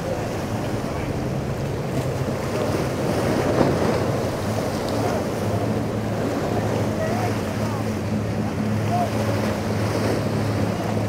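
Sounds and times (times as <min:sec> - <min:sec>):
choppy surf: 0:00.0 - 0:11.0
outboard engine running: 0:00.0 - 0:11.0
wind buffeting microphone: 0:00.0 - 0:11.0.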